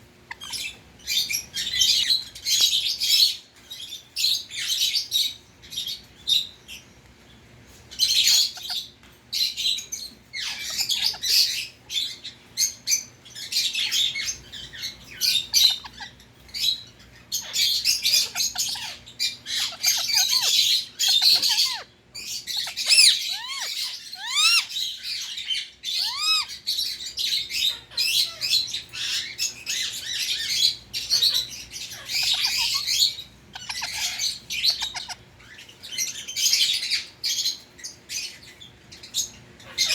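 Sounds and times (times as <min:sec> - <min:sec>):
parakeet squawking: 0:00.2 - 0:06.8, 0:07.9 - 0:08.9, 0:09.5 - 0:39.9.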